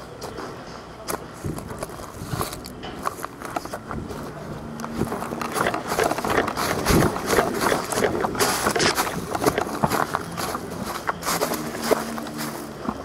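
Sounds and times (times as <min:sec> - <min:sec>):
footsteps: 0:00.2 - 0:13.0
clothing and gear rustling: 0:01.4 - 0:13.0.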